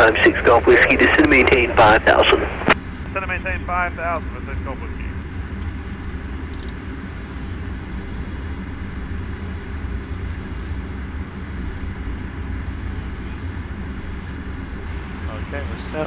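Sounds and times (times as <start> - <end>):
jet cabin engine drone: 0.0 - 16.0.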